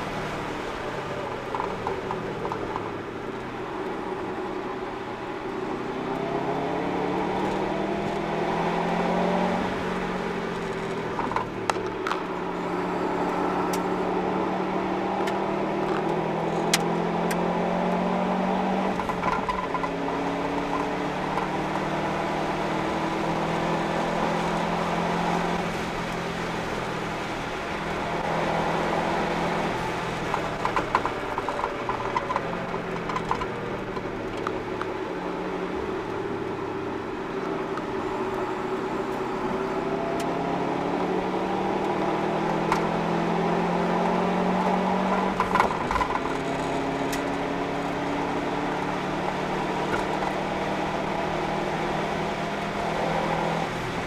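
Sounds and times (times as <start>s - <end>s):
car engine accelerating: 0.0s - 54.0s
road and tyre noise: 0.0s - 54.0s.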